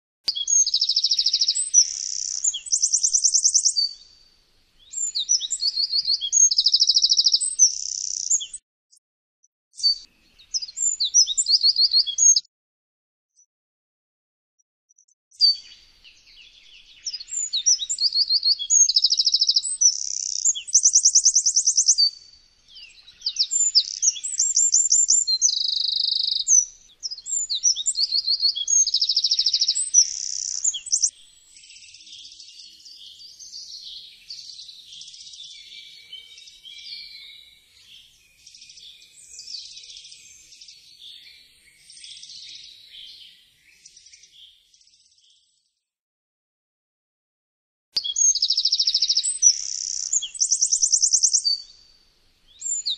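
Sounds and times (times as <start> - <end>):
wren singing trills: 0.3 - 4.0, 4.8 - 8.6, 9.8 - 12.5, 15.3 - 45.4, 48.0 - 52.9
faint scratchy wren song: 0.3 - 8.6, 9.7 - 12.5, 14.9 - 45.8, 48.0 - 52.9.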